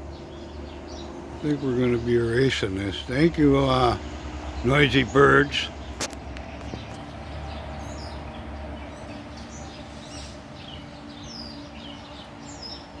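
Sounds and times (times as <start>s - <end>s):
catbird singing: 0.0s - 13.0s
steady low hum: 0.0s - 13.0s.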